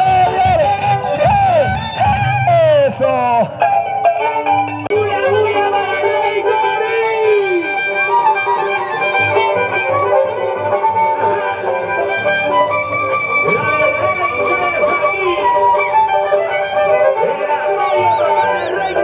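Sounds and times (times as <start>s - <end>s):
fiddle folk music: 0.0s - 19.0s.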